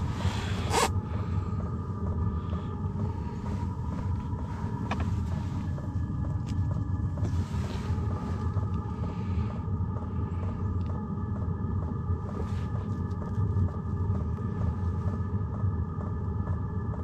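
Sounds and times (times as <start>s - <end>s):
fan whine: 0.0s - 17.0s
heater combustion rumble: 0.0s - 17.0s.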